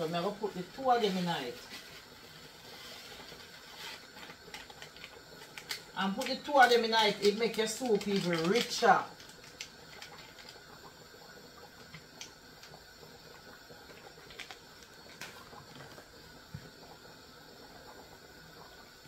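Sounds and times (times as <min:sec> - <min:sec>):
soup simmering: 0:00.0 - 0:19.0.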